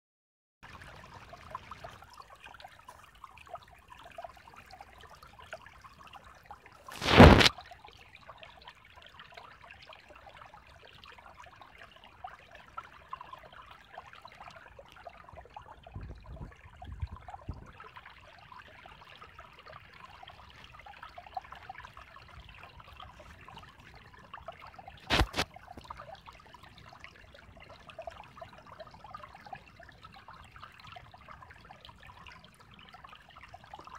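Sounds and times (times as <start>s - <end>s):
creek trickling over rocks: 0.6s - 33.9s.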